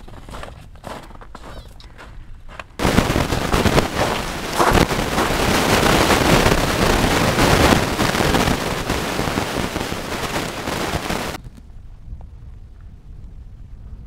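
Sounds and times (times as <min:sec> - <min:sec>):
gusty wind buffeting microphone: 0:01.9 - 0:14.0.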